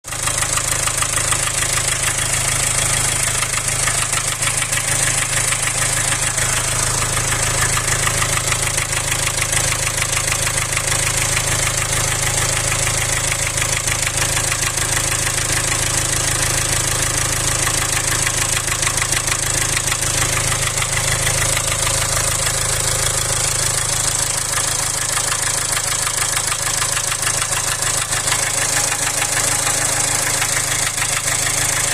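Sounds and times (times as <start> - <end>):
engine running with rhythmic knock: 0.1 - 31.9.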